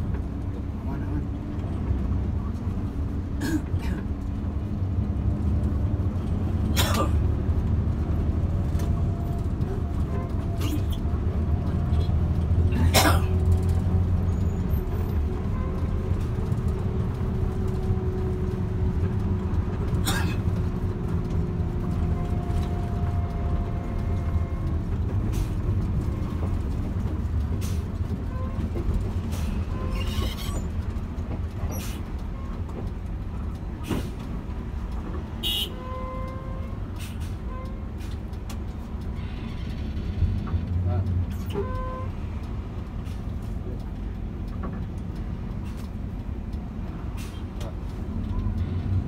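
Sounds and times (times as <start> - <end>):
bus engine and road rumble: 0.0 - 49.0.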